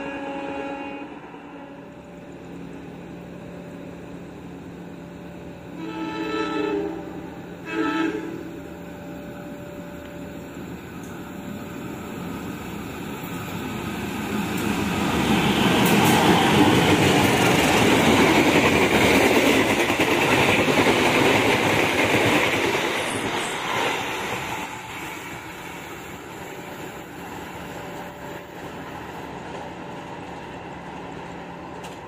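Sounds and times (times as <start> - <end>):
passenger train passing at speed: 0.0 - 32.0.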